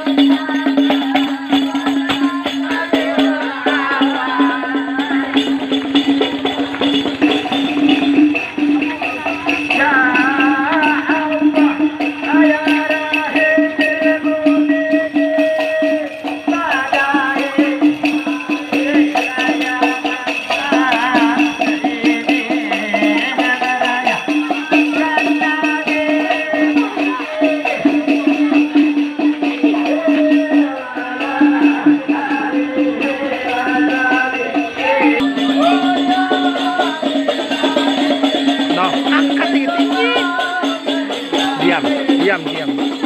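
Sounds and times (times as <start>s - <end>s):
frame drums beaten by hand: 0.0s - 43.0s
group singing a chant: 0.0s - 43.0s.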